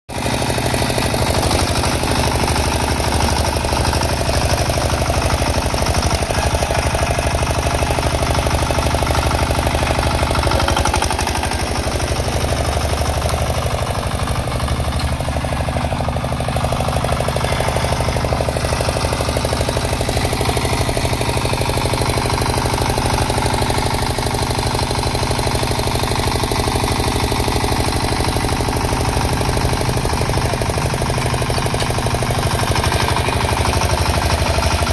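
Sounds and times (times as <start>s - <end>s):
diesel engine knocking steadily: 0.1s - 34.9s.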